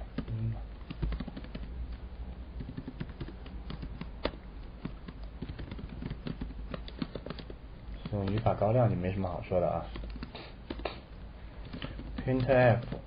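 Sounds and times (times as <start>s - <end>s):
keyboard typing: 0.1s - 13.0s.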